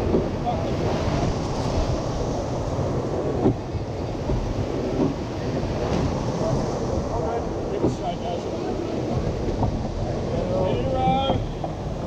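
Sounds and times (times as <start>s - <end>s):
rushing surf and water: 0.0s - 12.0s
wind buffeting microphone: 0.0s - 12.0s.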